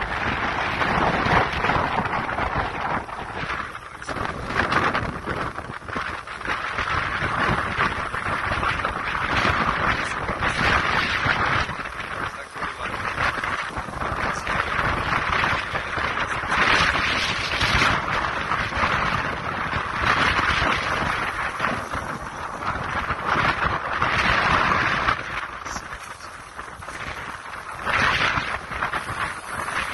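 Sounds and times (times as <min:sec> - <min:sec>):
strong gusting wind: 0:00.0 - 0:29.9.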